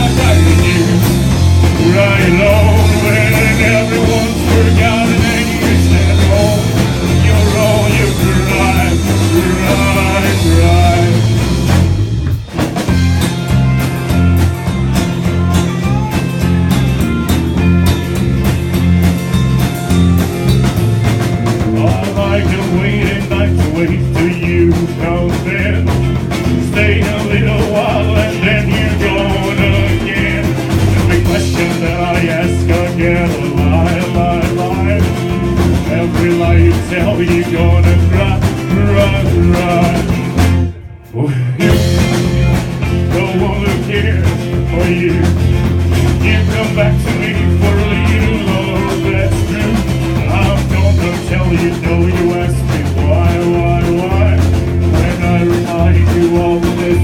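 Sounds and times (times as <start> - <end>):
bass guitar: 0.0 - 57.0
drum kit: 0.0 - 57.0
guitar: 0.0 - 57.0
rockabilly band playing: 0.0 - 57.0.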